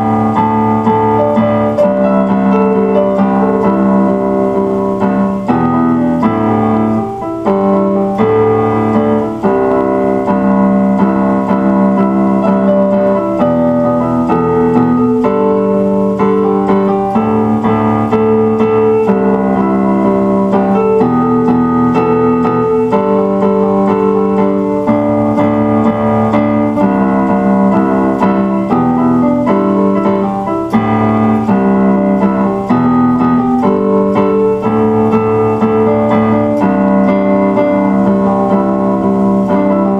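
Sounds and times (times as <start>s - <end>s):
electronic keyboard piano chords: 0.0s - 39.9s.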